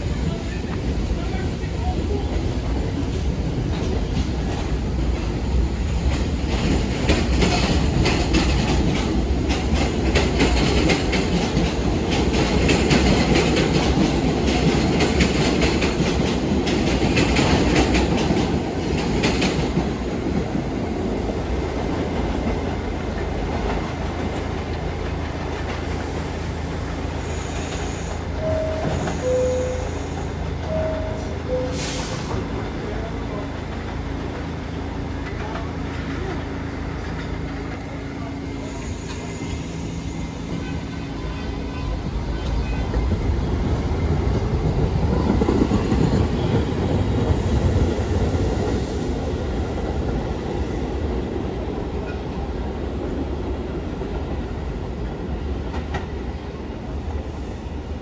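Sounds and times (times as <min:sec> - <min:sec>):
subway wheels clattering: 0:00.0 - 0:58.0.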